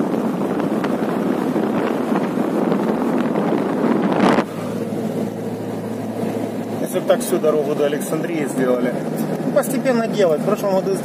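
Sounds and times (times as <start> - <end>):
wind buffeting microphone: 0.0 - 9.6
car road noise: 0.0 - 11.0
steady low hum: 0.2 - 9.6.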